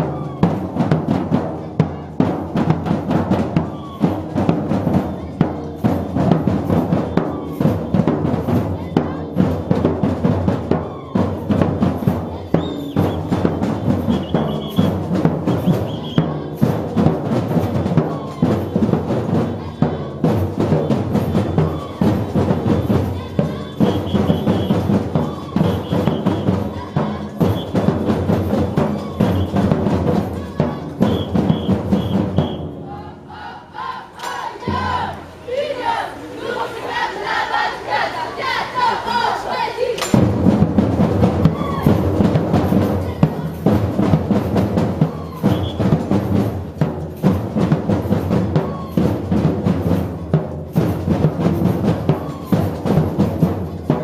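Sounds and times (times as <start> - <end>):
percussion band drumming: 0.0 - 35.5, 37.7 - 54.0.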